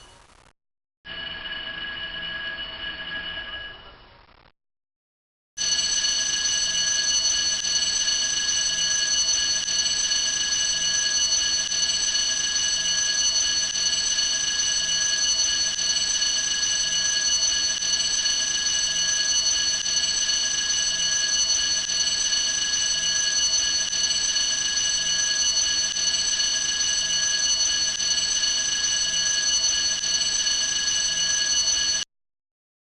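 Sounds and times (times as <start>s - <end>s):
alarm ringing: 1.1s - 4.0s, 5.6s - 32.1s.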